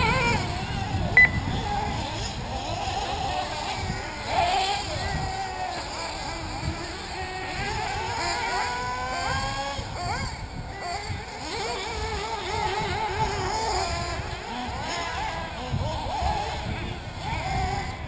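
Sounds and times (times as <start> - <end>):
rc buggy engines revving: 0.0 - 18.0.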